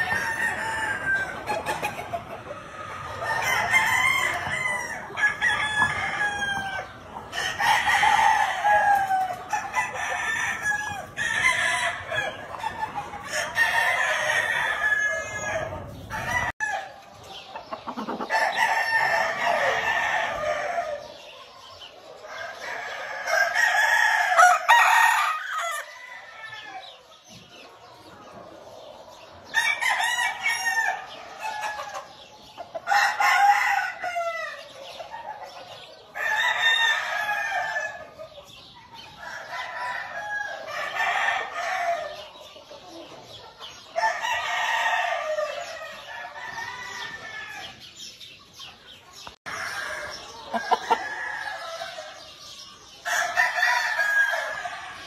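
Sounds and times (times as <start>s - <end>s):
roosters crowing: 0.0s - 21.3s, 22.1s - 27.2s, 29.2s - 42.5s, 43.7s - 48.3s, 49.2s - 55.0s.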